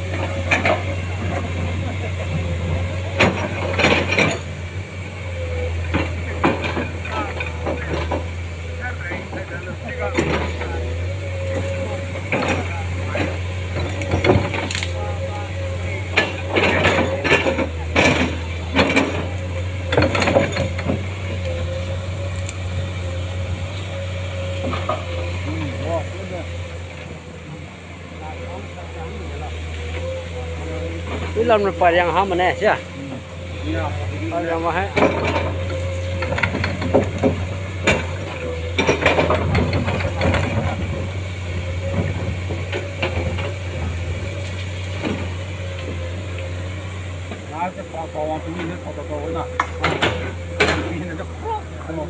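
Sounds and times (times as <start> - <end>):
excavator bucket clanking: 0.0 - 52.0
excavator engine drone and whine: 0.0 - 52.0.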